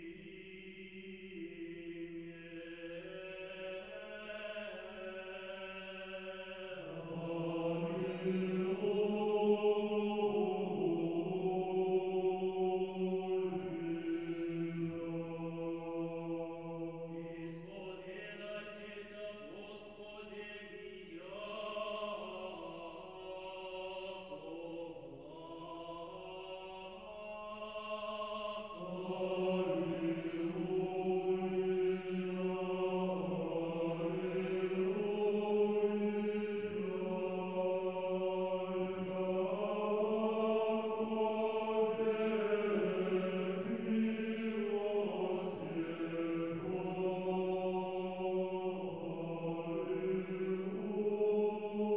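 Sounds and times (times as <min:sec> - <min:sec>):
choral chant: 0:00.0 - 0:51.9.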